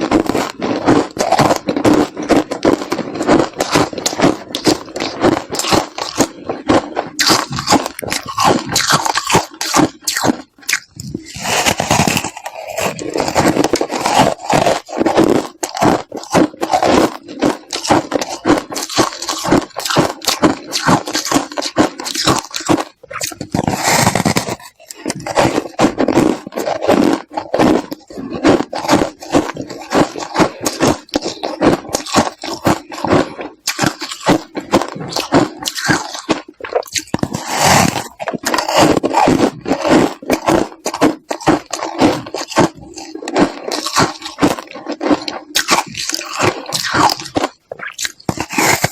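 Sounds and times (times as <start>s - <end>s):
ice crunching in mouth: 0.0s - 48.9s.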